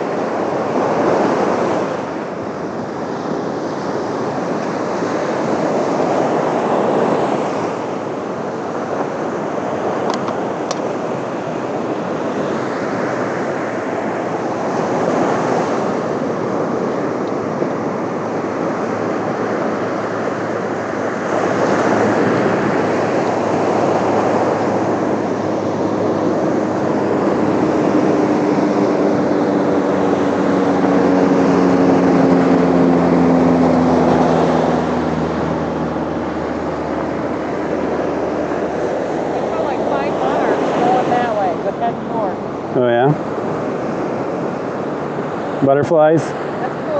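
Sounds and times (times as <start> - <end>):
steady rushing noise: 0.0 - 46.9
engine drone: 7.7 - 46.9.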